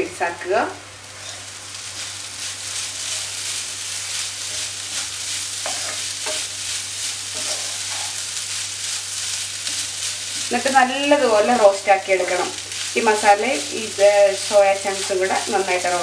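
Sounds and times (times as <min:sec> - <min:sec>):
food sizzling in frying: 0:00.0 - 0:16.0
wooden spatula scraping a wok: 0:01.1 - 0:16.0.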